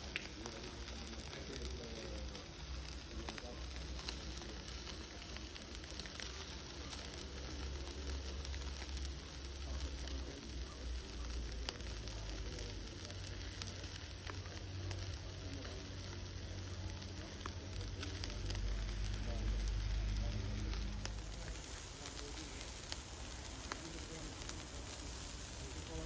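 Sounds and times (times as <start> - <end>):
fire pops and crackles: 0.0 - 26.0
food sizzling over fire: 0.0 - 26.0.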